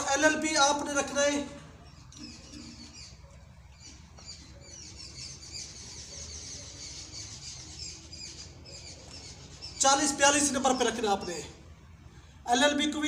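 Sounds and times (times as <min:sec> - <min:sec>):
small birds chirping: 0:01.0 - 0:12.2.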